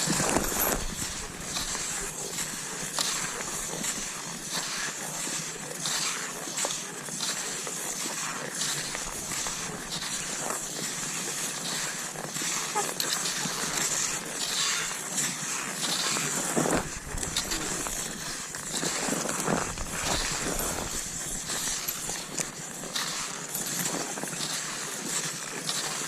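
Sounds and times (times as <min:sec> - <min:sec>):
ski pole plants: 0:00.0 - 0:26.0
skis swishing over snow: 0:00.0 - 0:26.0.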